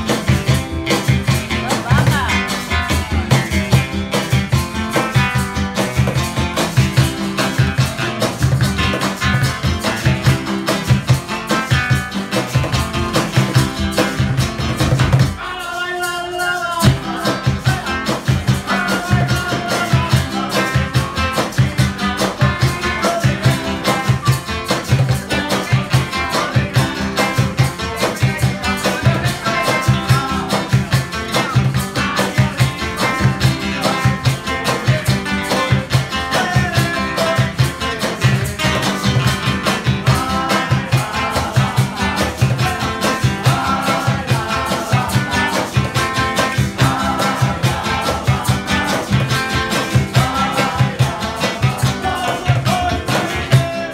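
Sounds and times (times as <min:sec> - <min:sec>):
acoustic guitars strumming: 0:00.0 - 0:53.9
cajon beat: 0:00.0 - 0:53.9
maracas shaking: 0:00.0 - 0:53.9.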